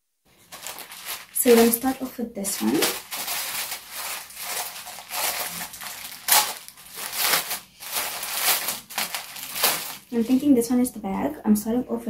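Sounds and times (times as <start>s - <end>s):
plastic bag crinkling: 0.3s - 10.7s.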